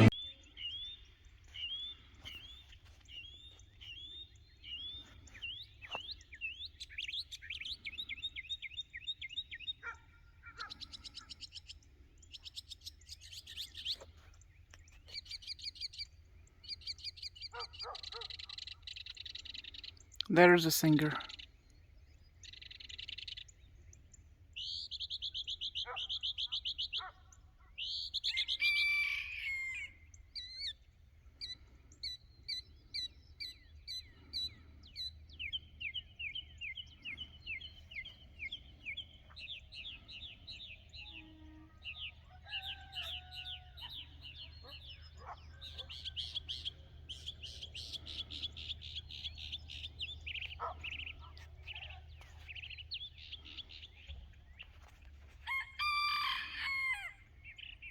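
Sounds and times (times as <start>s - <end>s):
songbirds singing: 0.0s - 57.9s.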